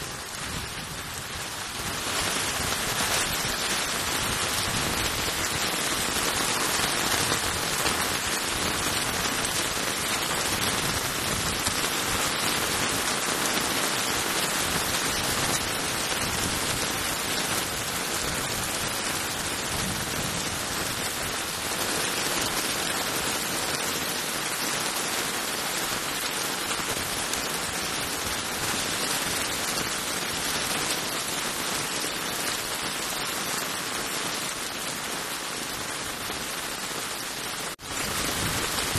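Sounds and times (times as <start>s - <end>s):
heavy rain pouring on street: 0.0s - 38.9s.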